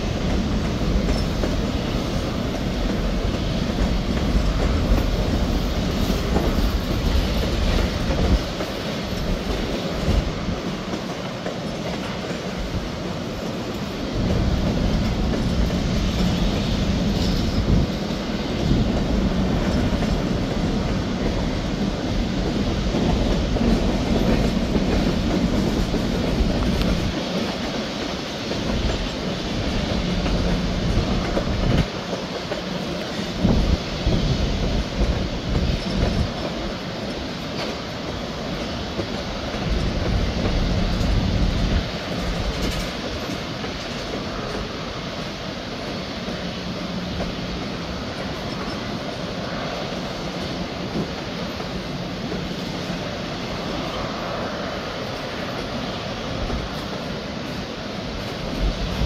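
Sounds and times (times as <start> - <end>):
steel wheels on rail: 0.0 - 59.0.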